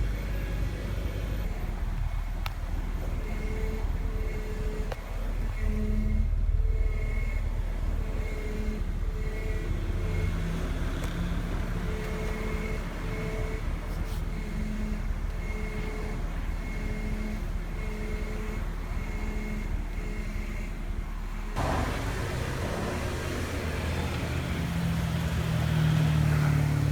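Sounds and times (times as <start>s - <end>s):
car engine running: 0.0s - 26.9s
faint whining tones: 0.0s - 26.9s.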